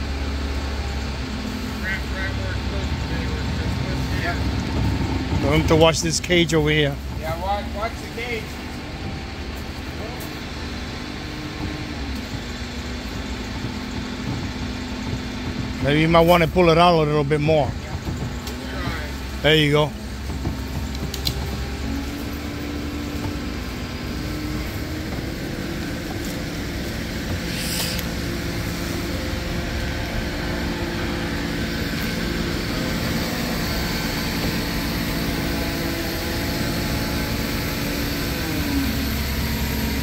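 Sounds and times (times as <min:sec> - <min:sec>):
crane engine rumbling: 0:00.0 - 0:40.0.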